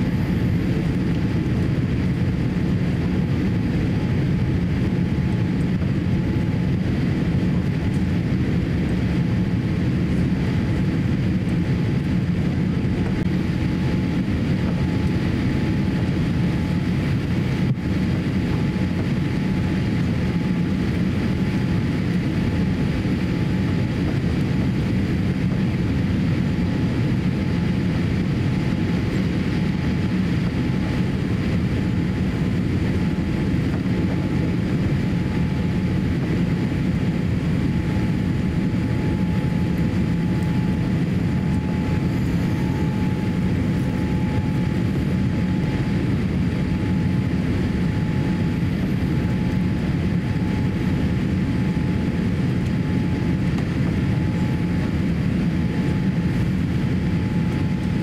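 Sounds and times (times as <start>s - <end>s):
airliner cabin rumble: 0.0s - 58.0s
faint steady whine: 0.0s - 58.0s.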